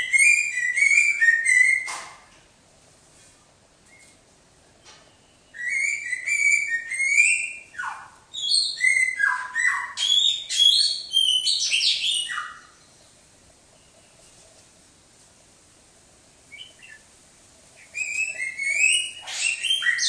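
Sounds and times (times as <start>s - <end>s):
songbird singing: 0.0s - 2.0s, 3.8s - 15.1s, 16.4s - 20.0s.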